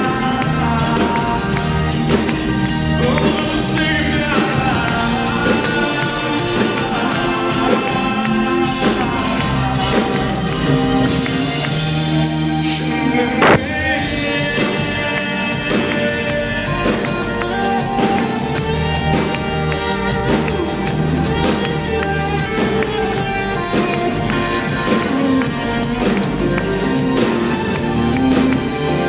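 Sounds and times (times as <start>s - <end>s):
band playing instrumental ballad: 0.0s - 29.0s
drums steady beat: 0.0s - 29.0s.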